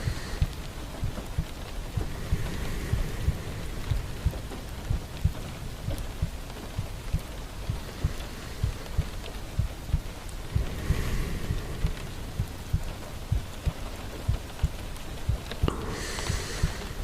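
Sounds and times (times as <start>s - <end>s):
rain hissing: 0.0s - 17.0s
raindrops thudding on surface: 0.0s - 17.0s.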